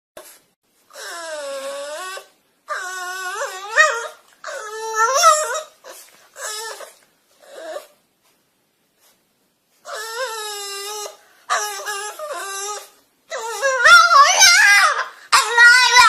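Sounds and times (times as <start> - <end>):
dog whining: 0.9 - 8.0, 9.8 - 16.0.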